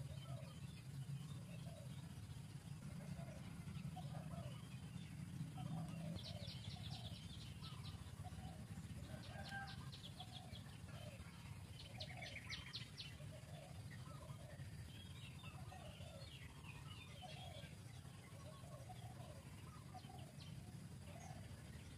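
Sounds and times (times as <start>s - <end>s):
low steady rumble: 0.0s - 21.9s
lower bird calls: 0.0s - 21.9s.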